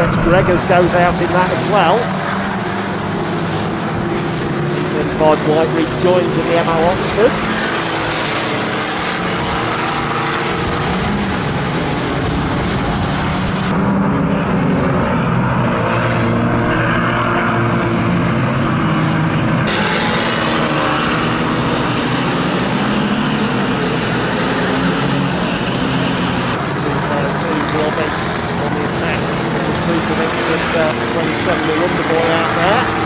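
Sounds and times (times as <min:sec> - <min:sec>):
race car engines running hard: 0:00.0 - 0:33.0.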